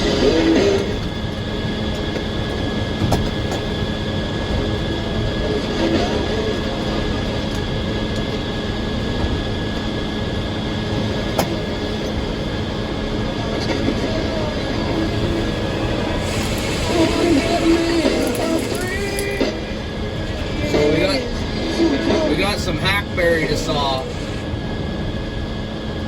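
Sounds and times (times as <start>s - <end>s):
sawmill machinery hum: 0.0s - 26.0s.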